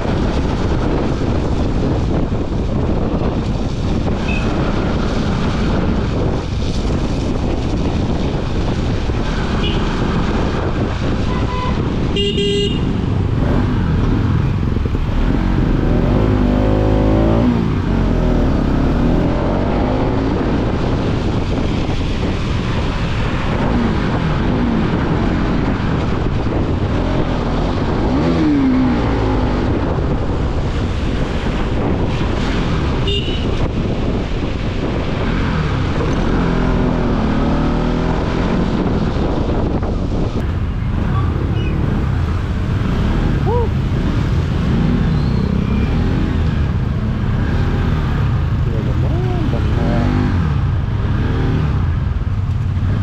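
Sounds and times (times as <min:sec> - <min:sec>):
motorcycle engine revving: 0:00.0 - 0:53.0
wind rushing on microphone: 0:00.0 - 0:53.0.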